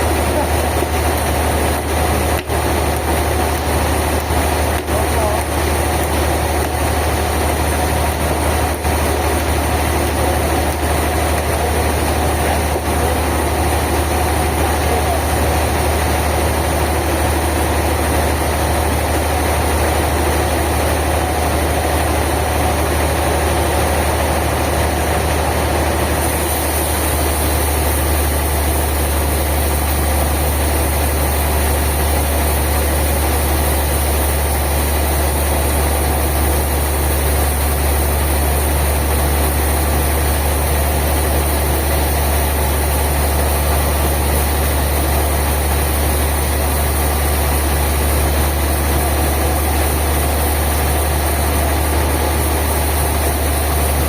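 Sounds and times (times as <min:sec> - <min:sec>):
heavy engine idling: 0:00.0 - 0:54.0.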